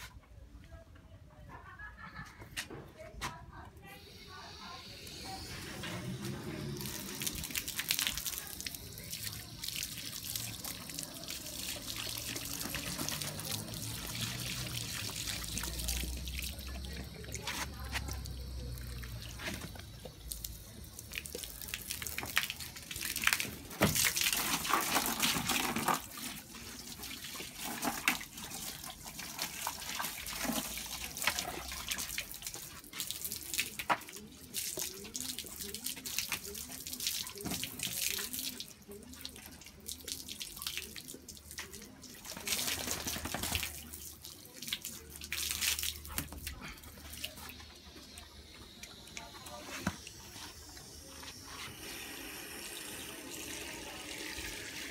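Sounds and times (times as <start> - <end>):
water running and splashing: 5.6 - 54.9.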